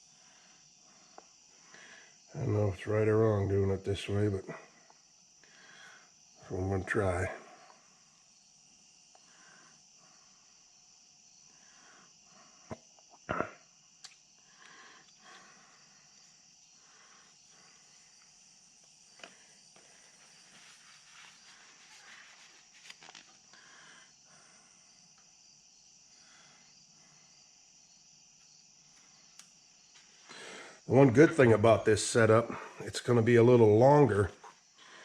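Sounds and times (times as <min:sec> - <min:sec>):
crickets chirping: 0:00.0 - 0:35.0.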